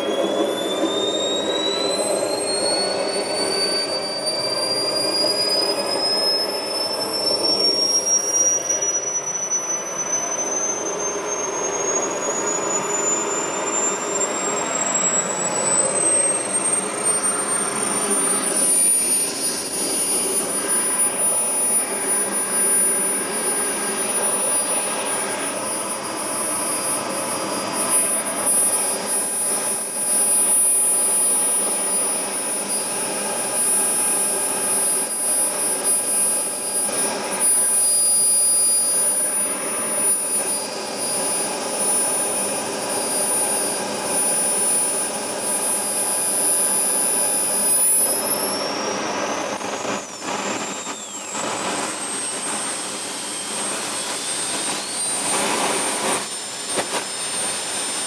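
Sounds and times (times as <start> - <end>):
jet turbine whining: 0.0 - 58.0.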